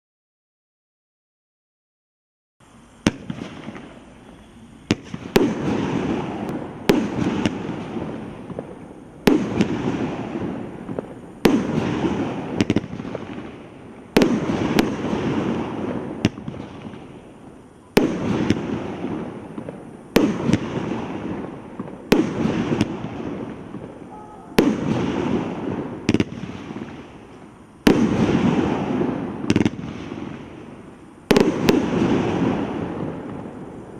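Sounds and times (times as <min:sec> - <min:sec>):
fireworks cake firing shots: 0:03.0 - 0:17.2, 0:17.9 - 0:33.6.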